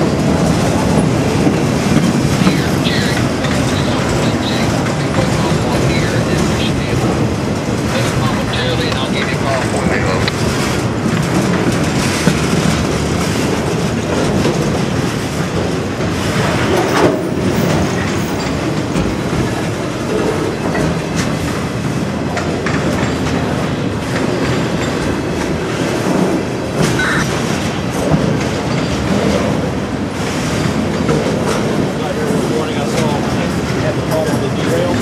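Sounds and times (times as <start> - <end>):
freight train rumbling past: 0.0 - 35.0
wheels clacking over rail joints: 0.0 - 35.0.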